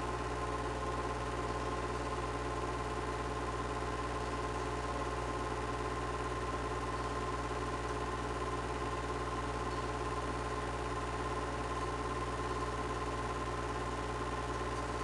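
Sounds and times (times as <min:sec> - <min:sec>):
film projector motor whirring: 0:00.0 - 0:15.0.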